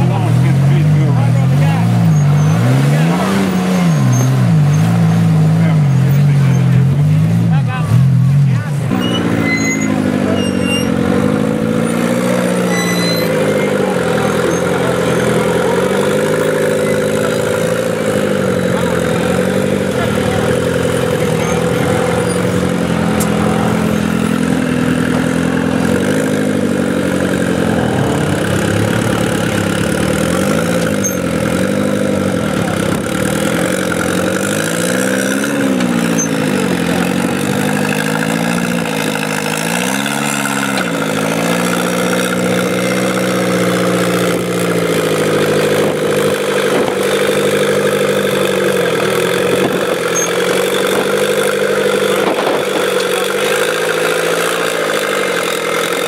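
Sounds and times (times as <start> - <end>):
buggy engine running at low revs: 0.0 - 56.0.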